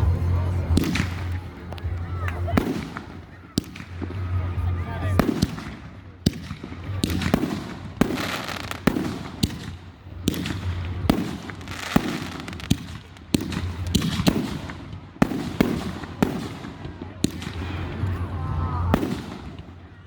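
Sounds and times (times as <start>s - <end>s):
fireworks bangs: 0.0s - 19.9s
fireworks crackling and hissing: 0.0s - 20.0s.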